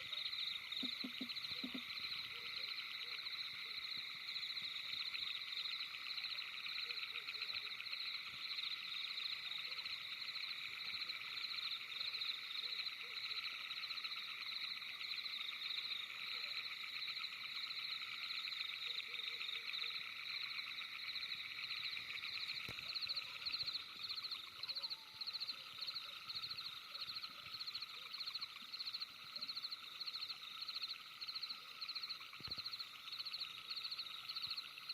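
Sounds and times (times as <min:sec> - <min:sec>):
frogs calling in chorus: 0:00.0 - 0:34.9.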